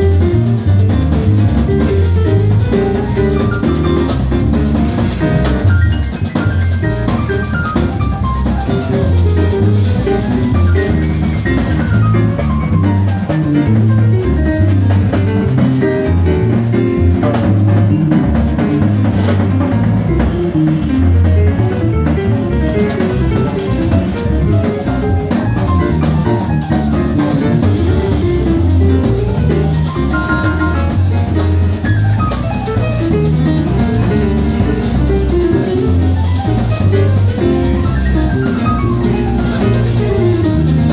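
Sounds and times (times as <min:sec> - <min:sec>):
bass line: 0:00.0 - 0:40.9
jazz combo playing: 0:00.0 - 0:40.9.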